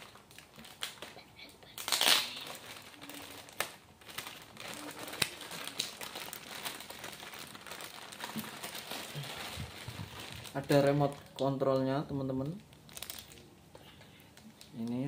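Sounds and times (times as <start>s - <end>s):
plastic bag crinkling: 0.0s - 13.6s, 14.4s - 15.0s.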